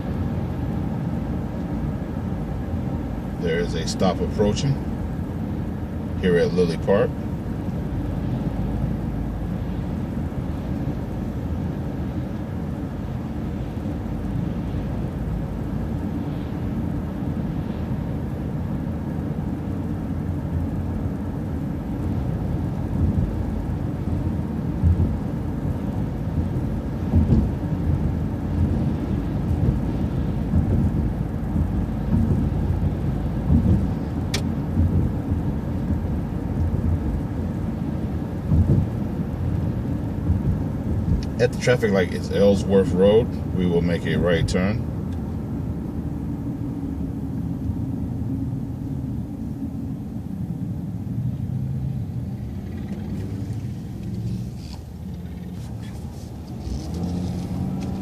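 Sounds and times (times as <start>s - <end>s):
bus engine rumble: 0.0s - 58.0s
road noise: 0.0s - 58.0s.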